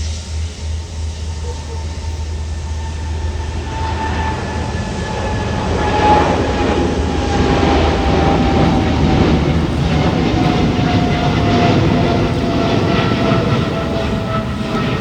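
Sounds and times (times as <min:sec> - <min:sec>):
high engine whine: 0:00.0 - 0:15.0
jet airliner rumble: 0:00.0 - 0:15.0.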